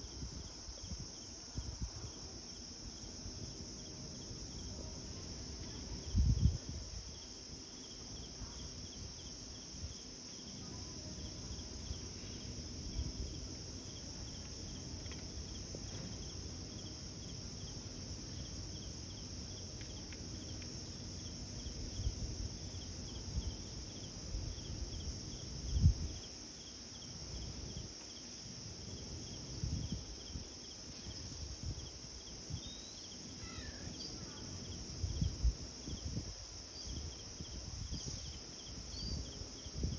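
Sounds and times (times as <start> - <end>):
insect chorus buzzing and chirping: 0.0 - 39.9.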